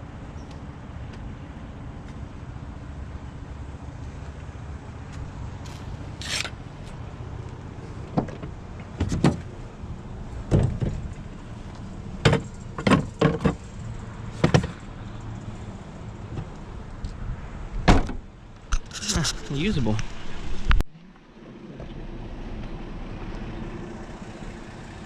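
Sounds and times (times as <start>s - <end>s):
low vehicle engine rumble: 0.0s - 25.0s.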